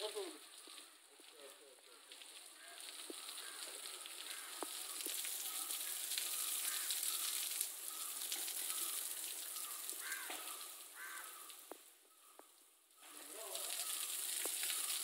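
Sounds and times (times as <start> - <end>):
water spray hissing and pattering: 0.0 - 15.0.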